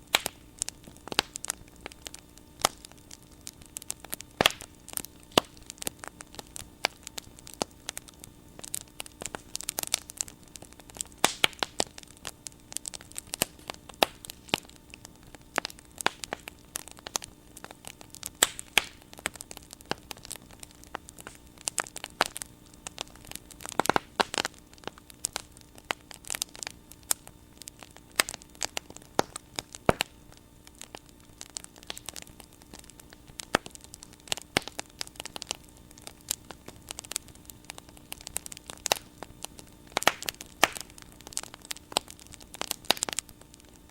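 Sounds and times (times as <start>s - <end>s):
bonfire crackling and popping: 0.0s - 43.9s.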